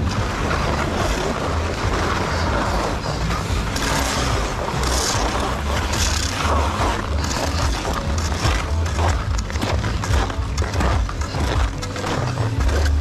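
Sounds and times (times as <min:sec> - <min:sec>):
skis scraping on snow: 0:00.0 - 0:13.0.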